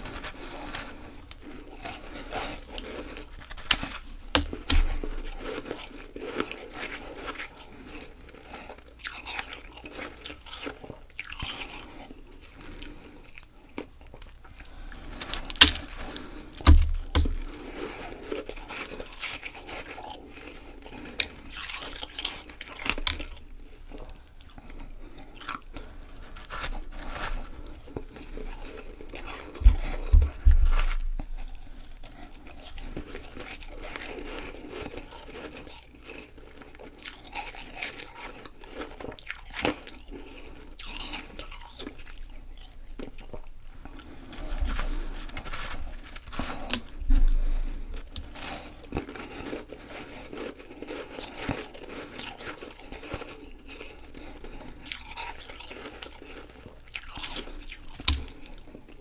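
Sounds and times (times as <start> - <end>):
chewing crunchy ice: 0.0 - 59.0.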